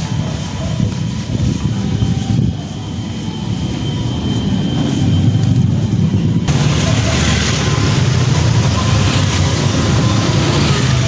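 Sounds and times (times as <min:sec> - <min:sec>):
motor scooter engine rumbling: 0:00.0 - 0:11.0
street noise: 0:00.0 - 0:11.0.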